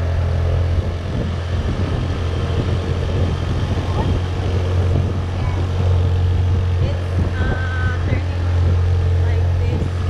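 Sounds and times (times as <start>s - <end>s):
motorbike engine running: 0.0s - 10.0s
road and wind noise: 0.0s - 10.0s.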